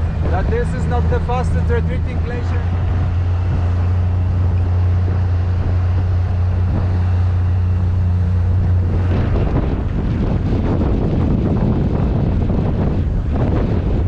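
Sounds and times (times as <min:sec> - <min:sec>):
outboard motor droning: 0:00.0 - 0:14.0
wind buffeting microphone: 0:00.0 - 0:14.0.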